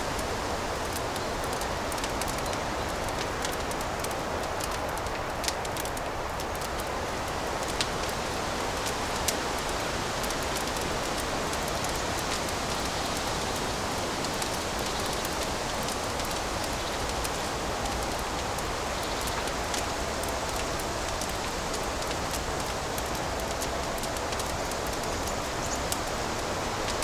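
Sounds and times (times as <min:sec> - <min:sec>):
fire hissing and crackling: 0:00.0 - 0:27.0.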